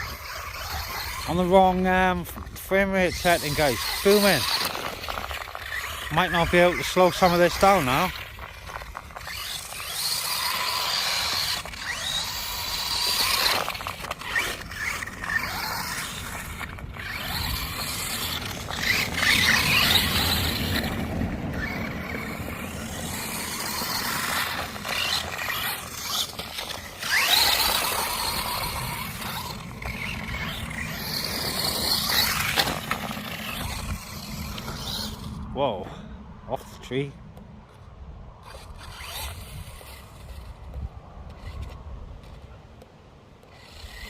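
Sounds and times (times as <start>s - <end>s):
electric motor whine: 0.0s - 35.5s
tyres scrabbling over rough ground: 0.0s - 35.5s, 37.4s - 44.0s.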